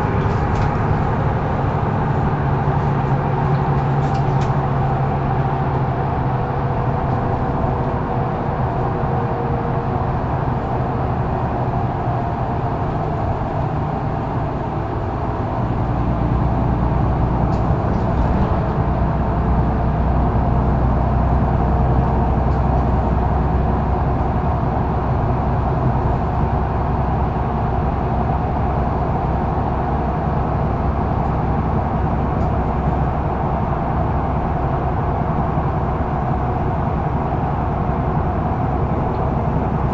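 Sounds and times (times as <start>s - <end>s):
diesel bus engine: 0.0s - 39.9s
road noise: 0.0s - 39.9s.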